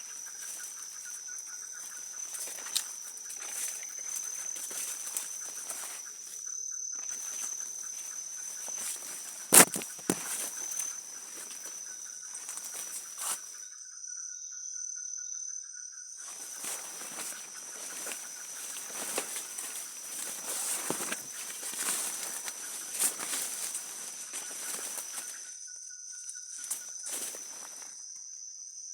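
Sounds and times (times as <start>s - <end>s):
footsteps on leaves and twigs: 0.0s - 13.6s, 16.2s - 28.0s
insects droning: 0.0s - 28.9s.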